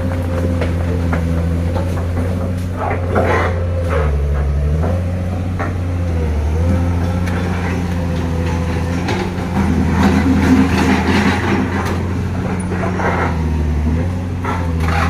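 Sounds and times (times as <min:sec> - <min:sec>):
knocks and rattles: 0:00.0 - 0:15.0
truck diesel engine lugging: 0:00.0 - 0:15.0.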